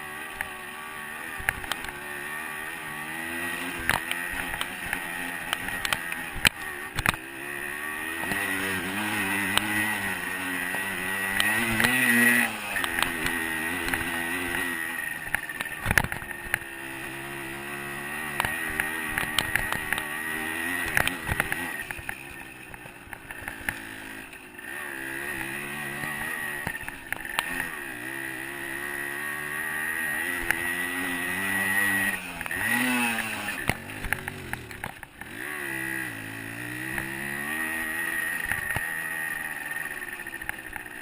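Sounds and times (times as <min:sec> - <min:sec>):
two-stroke dirt bike engine: 0:00.0 - 0:41.0.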